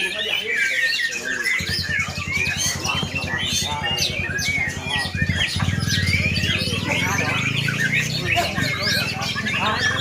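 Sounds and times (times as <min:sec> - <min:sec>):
songbirds singing and chirping: 0:00.0 - 0:10.0
low rapid throbbing hum: 0:01.6 - 0:09.8.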